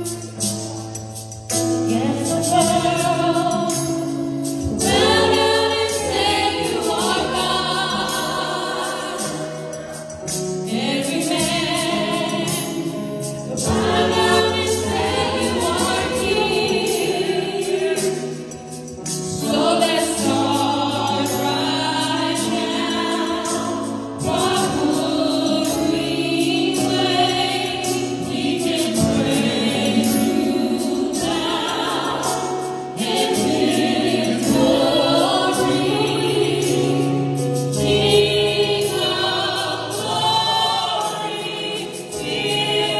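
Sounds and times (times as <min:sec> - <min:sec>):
backing music: 0:00.0 - 0:42.9
women singing gospel song: 0:01.7 - 0:42.9.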